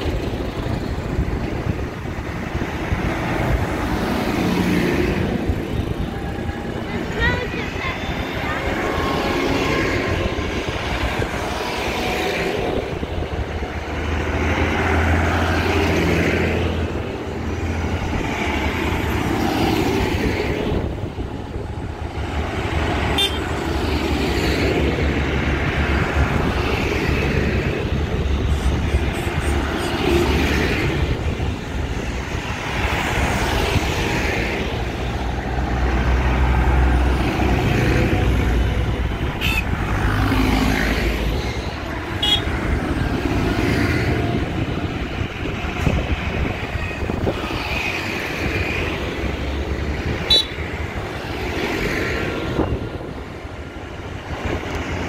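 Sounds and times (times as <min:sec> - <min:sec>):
tractors and vehicles driving past: 0:00.0 - 0:55.0.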